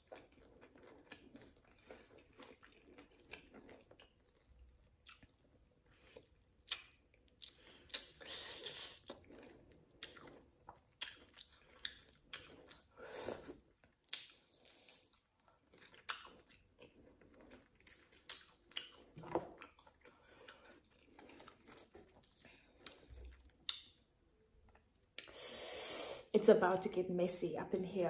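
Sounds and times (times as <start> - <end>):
person chewing: 0.0 - 25.9.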